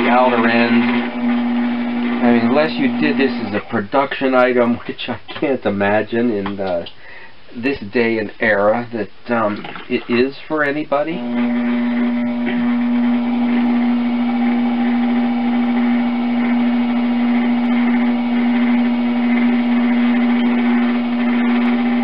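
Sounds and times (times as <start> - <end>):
potter's wheel humming: 0.0 - 6.8, 9.3 - 22.0.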